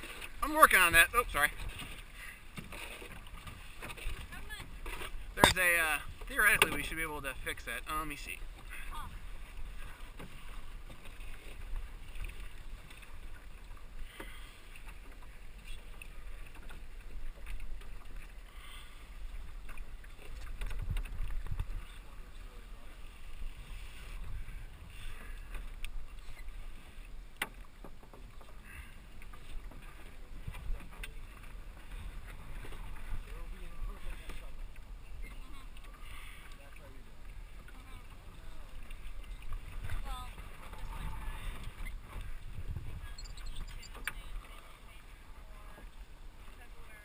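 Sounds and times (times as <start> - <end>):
wind and water rumble: 0.0 - 47.0.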